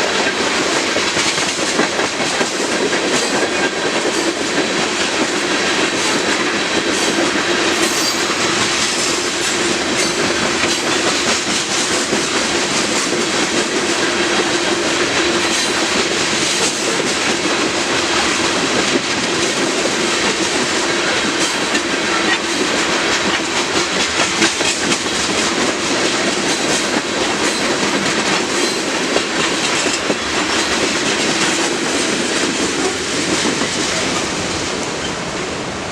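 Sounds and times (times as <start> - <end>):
rhythmic clickety-clack: 0.0 - 34.9
freight train wheels on rails: 0.0 - 35.9.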